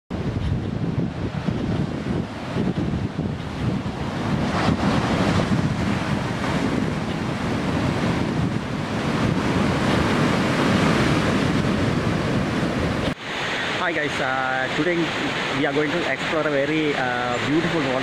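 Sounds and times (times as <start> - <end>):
waves breaking on shore: 0.1 - 18.0.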